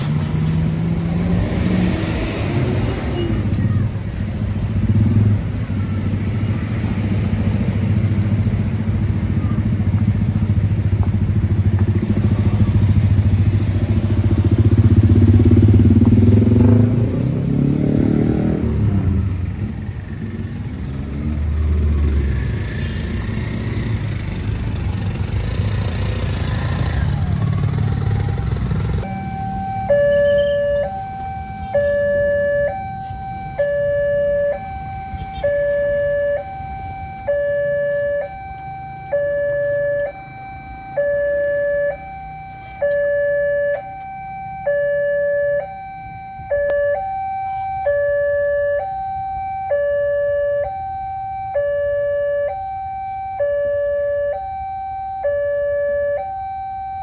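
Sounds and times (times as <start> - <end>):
motorcycles and cars passing: 0.0 - 57.0
electronic crossing warning alarm: 0.1 - 10.6, 11.5 - 57.0.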